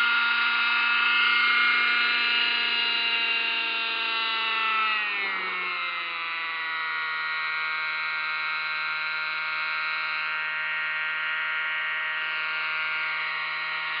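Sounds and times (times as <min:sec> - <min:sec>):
rc helicopter whine: 0:00.0 - 0:14.0.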